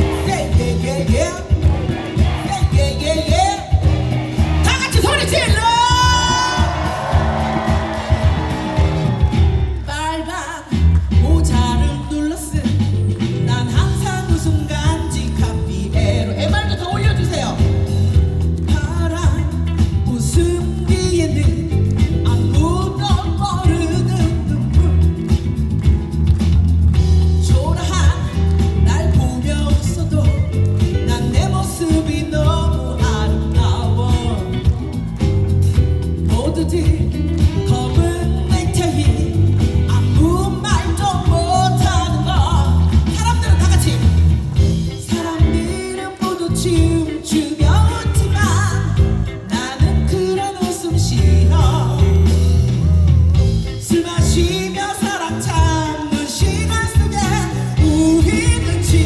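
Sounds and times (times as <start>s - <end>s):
woman singing: 0.0s - 8.8s, 9.8s - 25.4s, 27.4s - 52.6s, 53.8s - 59.0s
live band music: 0.0s - 59.0s.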